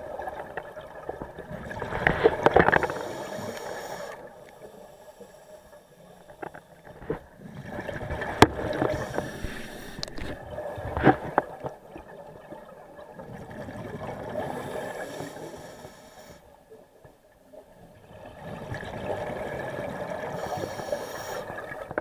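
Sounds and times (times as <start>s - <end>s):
underwater bubbles gurgling: 0.0s - 22.0s.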